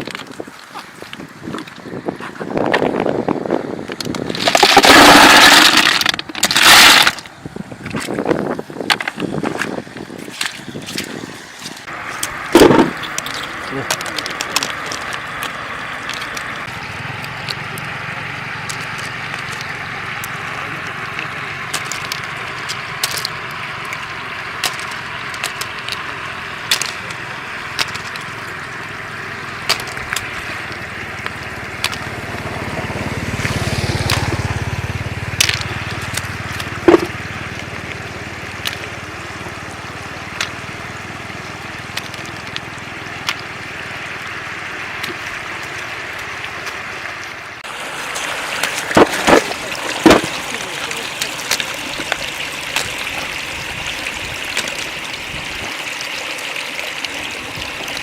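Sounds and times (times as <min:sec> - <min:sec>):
floodwater flowing: 0:00.0 - 0:58.0.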